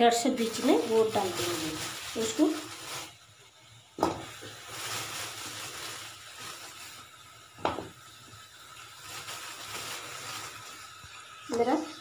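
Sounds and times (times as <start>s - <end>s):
water hissing in hot pan: 0.0s - 12.0s.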